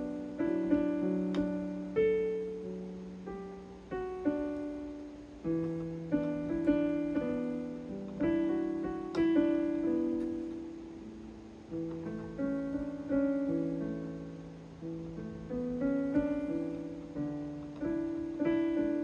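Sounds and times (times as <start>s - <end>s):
keyboard chords and notes: 0.0s - 19.0s.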